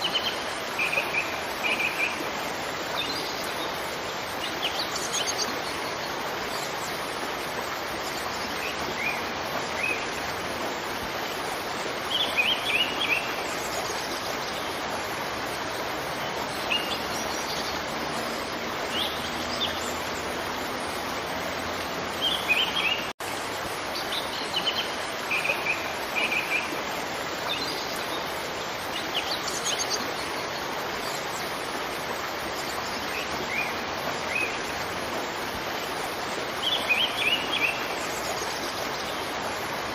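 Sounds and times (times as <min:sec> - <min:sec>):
songbirds chirping: 0:00.0 - 0:39.9
waterfall rushing: 0:00.0 - 0:39.9.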